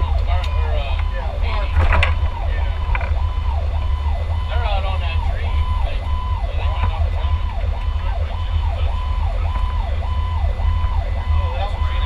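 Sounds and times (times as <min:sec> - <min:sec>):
engine and road rumble: 0:00.0 - 0:12.0
fire truck siren wailing: 0:00.0 - 0:12.0.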